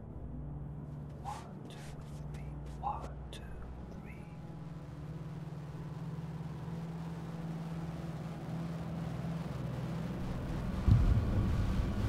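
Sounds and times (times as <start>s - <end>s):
low steady drone: 0.0s - 12.0s.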